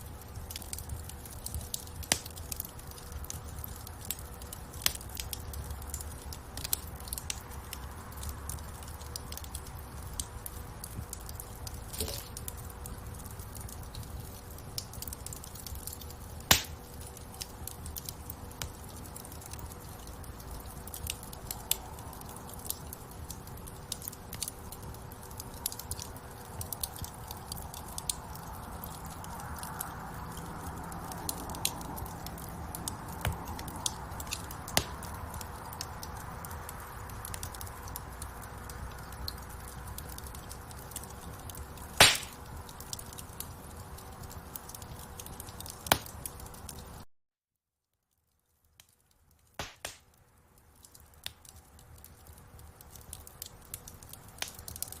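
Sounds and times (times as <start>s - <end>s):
low rumble of flames: 0.0s - 47.0s, 48.4s - 55.0s
wood fire crackling and popping: 0.0s - 47.1s, 48.3s - 55.0s.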